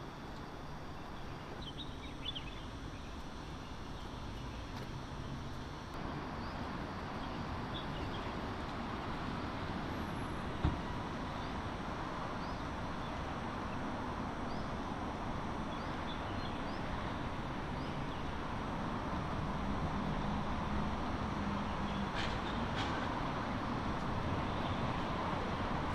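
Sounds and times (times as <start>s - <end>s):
low engine hum: 0.0s - 25.9s
traffic noise: 0.0s - 25.9s.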